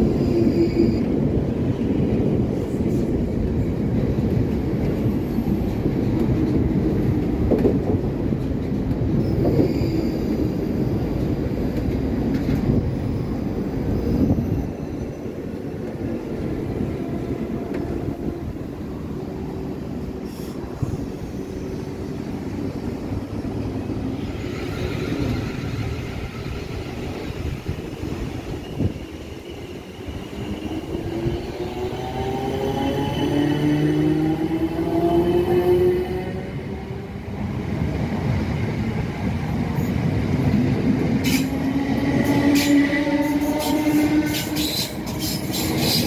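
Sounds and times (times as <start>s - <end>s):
bright high train noise: 0.0s - 46.0s
train low rumble: 0.0s - 46.0s.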